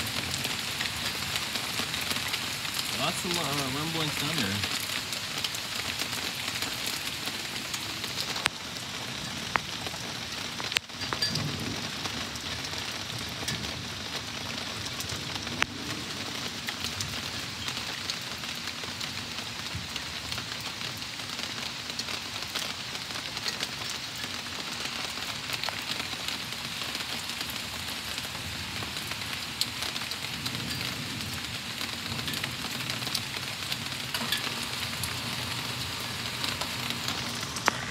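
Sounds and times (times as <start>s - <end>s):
heavy rain on leaves: 0.0s - 37.9s.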